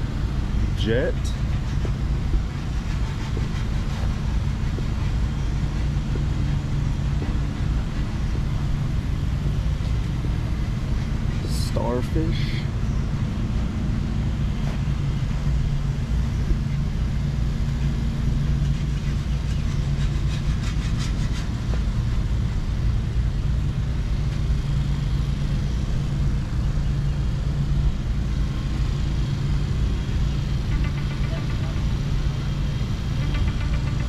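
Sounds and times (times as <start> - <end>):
low engine drone: 0.0 - 34.0.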